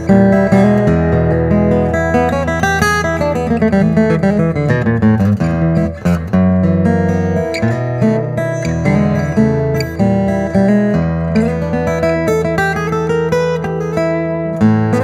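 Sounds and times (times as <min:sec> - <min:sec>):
amplified acoustic guitar picking: 0:00.0 - 0:15.0.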